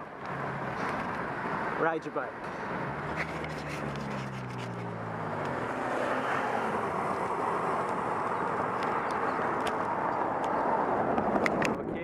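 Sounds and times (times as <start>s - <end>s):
passing vehicle engine hum: 0.0s - 11.9s
wind and road rush: 0.0s - 12.0s.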